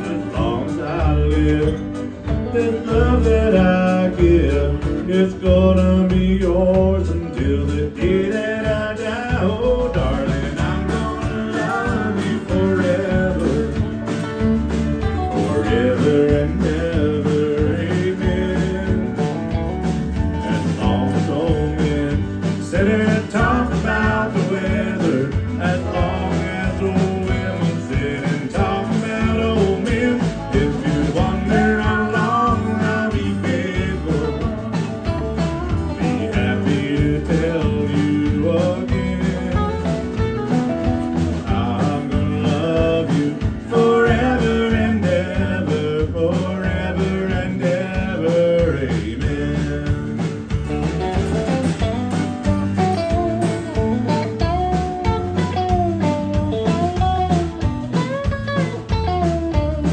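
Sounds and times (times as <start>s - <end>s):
live country band playing: 0.0s - 59.9s.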